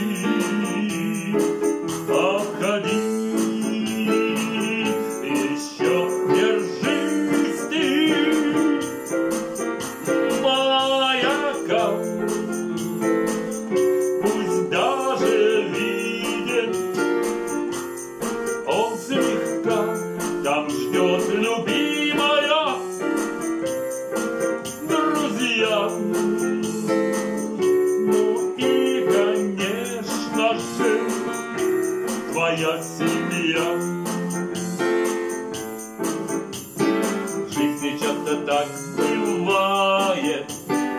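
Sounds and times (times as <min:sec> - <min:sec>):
digital piano chords and melody: 0:00.0 - 0:40.9.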